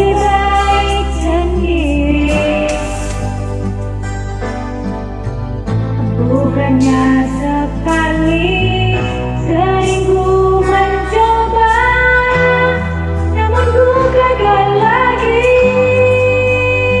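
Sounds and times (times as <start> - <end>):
instrumental pop ballad: 0.0 - 17.0.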